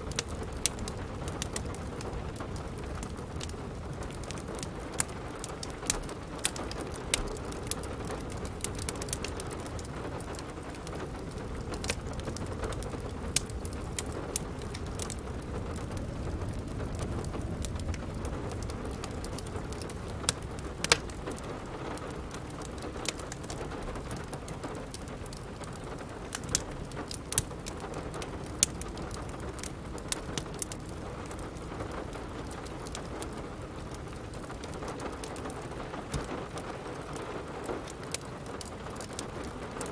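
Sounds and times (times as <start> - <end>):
fireplace fire crackling: 0.0 - 39.9
steady rain: 0.0 - 39.9.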